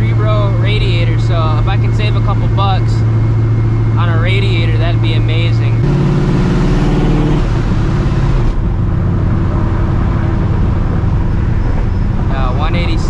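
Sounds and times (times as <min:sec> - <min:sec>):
car engine while driving: 0:00.0 - 0:13.0.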